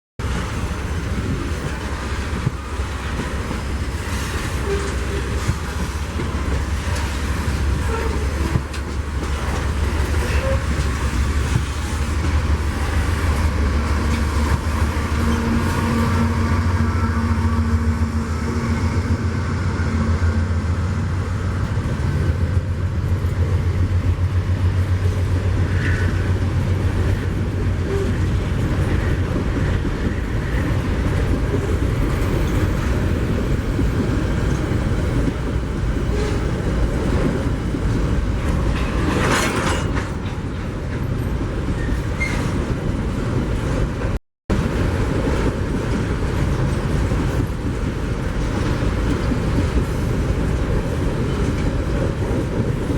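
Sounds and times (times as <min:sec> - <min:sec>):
diesel locomotive engine hum: 0:00.2 - 0:52.9
train wagons rumbling on rails: 0:00.2 - 0:52.9.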